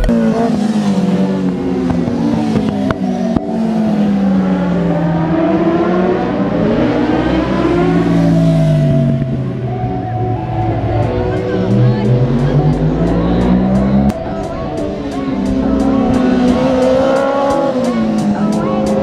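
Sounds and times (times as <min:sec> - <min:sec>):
racing motorcycles passing: 0:00.0 - 0:19.0.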